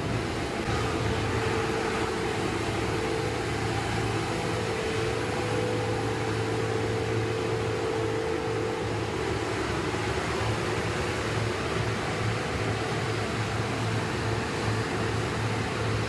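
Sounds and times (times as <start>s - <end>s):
high steady whine: 0.0s - 16.0s
machine engine humming: 0.0s - 16.0s.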